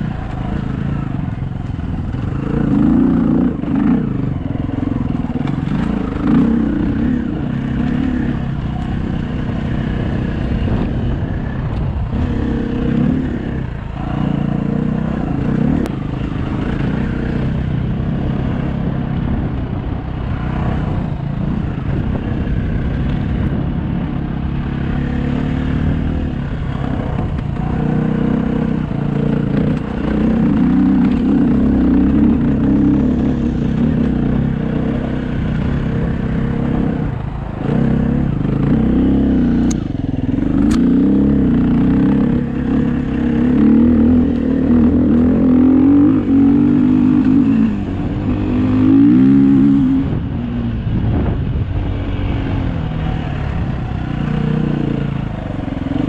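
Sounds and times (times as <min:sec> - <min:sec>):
dirt bike engine running hard: 0:00.0 - 0:56.0.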